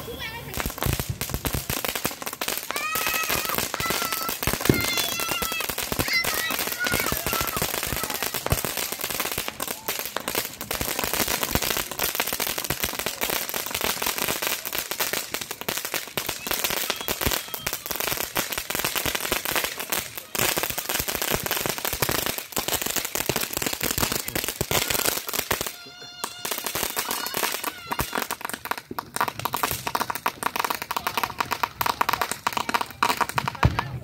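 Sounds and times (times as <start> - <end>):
firework crackling and popping: 0.0 - 34.0.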